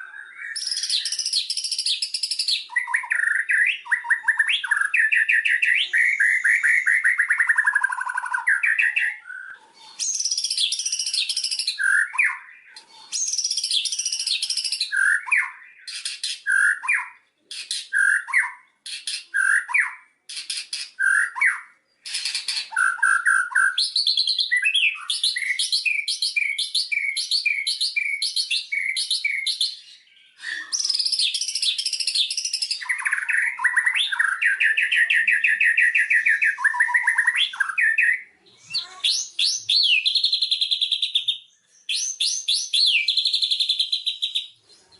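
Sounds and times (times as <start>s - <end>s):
songbird singing varied song: 0.0s - 44.9s.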